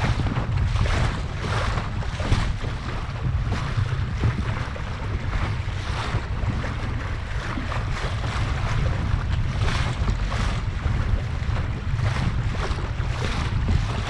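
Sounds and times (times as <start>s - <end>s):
water splashing along a boat hull: 0.0s - 14.0s
wind buffeting microphone: 0.0s - 14.0s.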